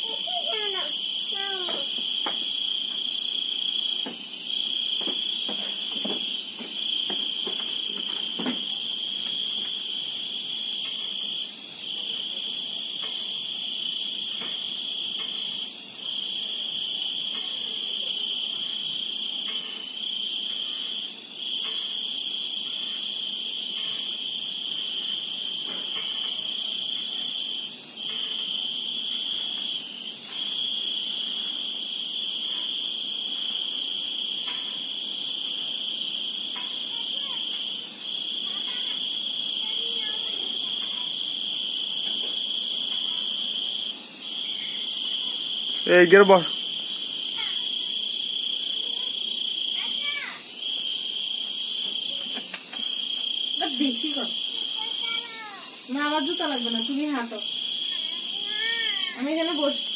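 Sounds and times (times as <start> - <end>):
crickets trilling: 0.0 - 59.9
insects pulsing chirring: 0.0 - 59.9.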